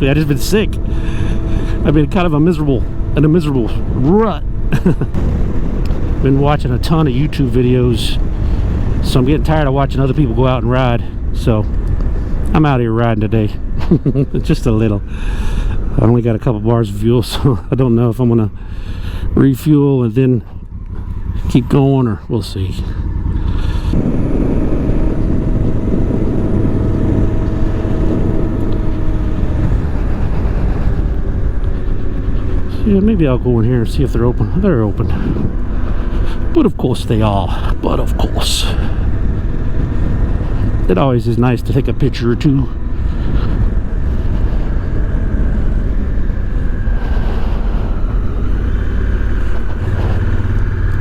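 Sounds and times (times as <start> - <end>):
motorcycle engine running: 0.0 - 51.0
road rumble: 0.0 - 51.0
wind noise: 0.0 - 51.0.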